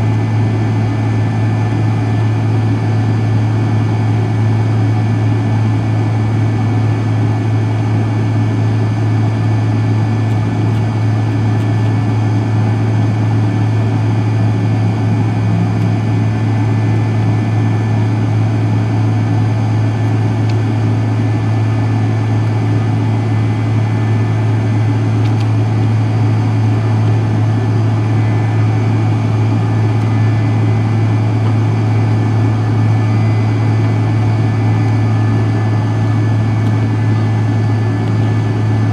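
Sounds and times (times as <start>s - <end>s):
jet cabin drone with whine: 0.0s - 38.9s.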